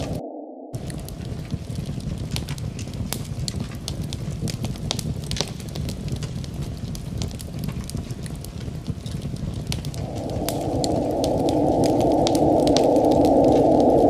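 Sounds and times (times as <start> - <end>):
low rumble of wind: 0.0 - 14.0
wood fire crackling and popping: 0.8 - 14.0.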